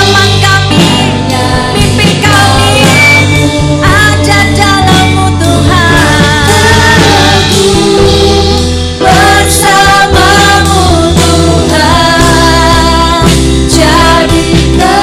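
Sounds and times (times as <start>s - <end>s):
worship song singing with instruments: 0.0s - 15.0s.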